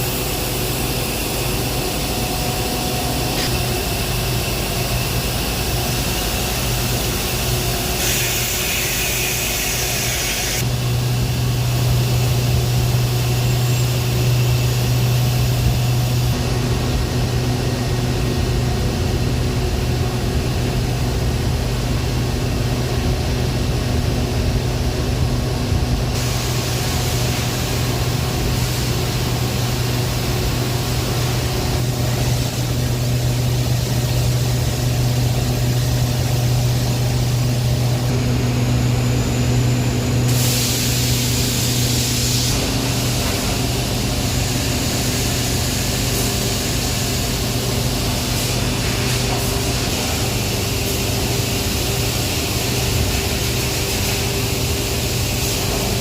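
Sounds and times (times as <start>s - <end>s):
machinery hiss: 0.0s - 18.1s, 26.2s - 56.0s
industrial machinery humming: 0.0s - 56.0s.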